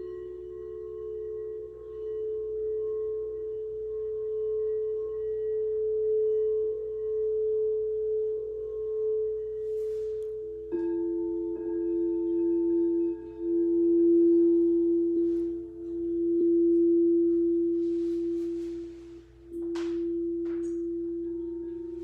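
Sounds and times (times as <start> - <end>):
bowl being struck: 0.0 - 22.0
singing bowls ringing: 0.0 - 22.0.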